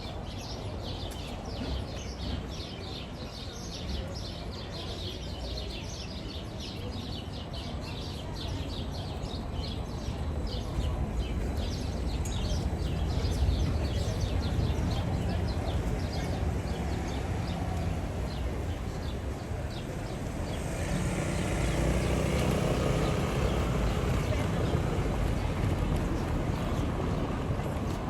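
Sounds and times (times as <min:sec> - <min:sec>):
crowd murmur: 0:00.0 - 0:28.0.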